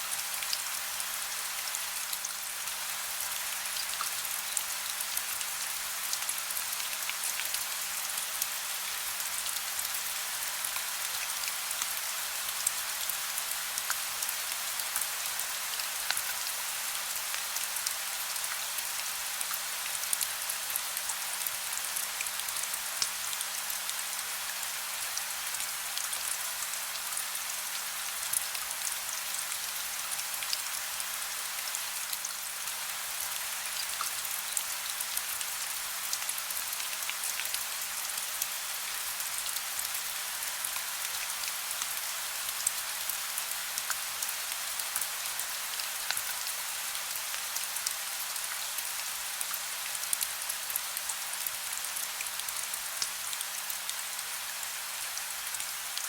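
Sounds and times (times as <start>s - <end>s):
soft rain hiss: 0.0s - 56.0s.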